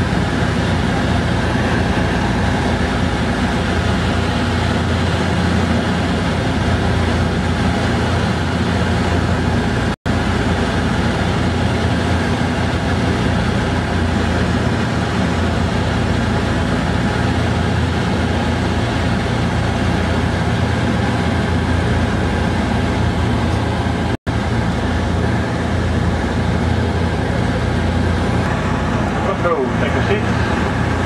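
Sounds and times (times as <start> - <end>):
propeller plane engines droning: 0.0 - 31.0.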